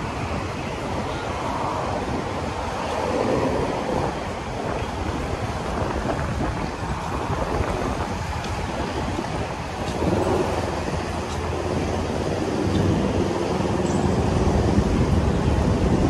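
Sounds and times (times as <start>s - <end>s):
road traffic: 0.0s - 16.0s
wind: 0.0s - 16.0s.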